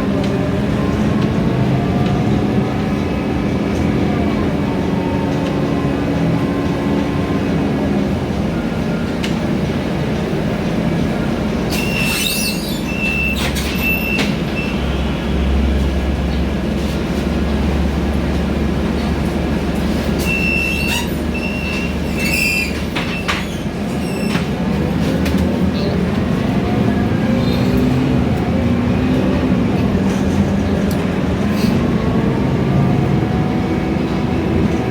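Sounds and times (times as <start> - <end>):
bus engine and road noise: 0.0 - 34.9.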